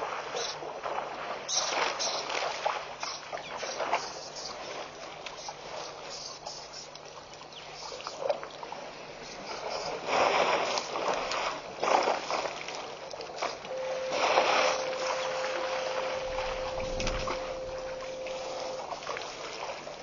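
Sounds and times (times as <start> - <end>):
waterhole ambience: 0.0 - 20.0.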